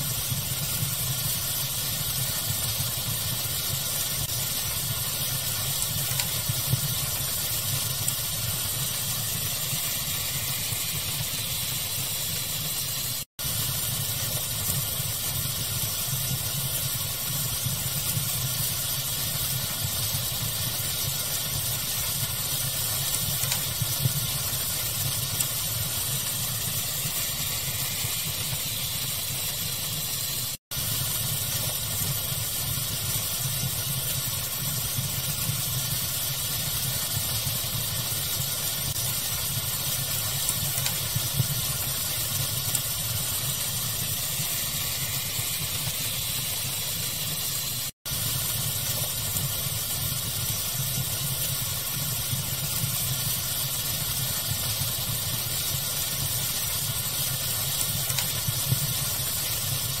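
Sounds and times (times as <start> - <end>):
fire crackling: 0.0 - 60.0
steady hiss: 0.0 - 60.0.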